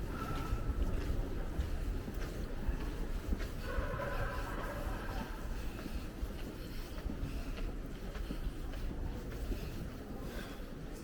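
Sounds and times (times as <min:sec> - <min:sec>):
city street rumble: 0:00.0 - 0:11.0
faint footsteps: 0:00.0 - 0:11.0.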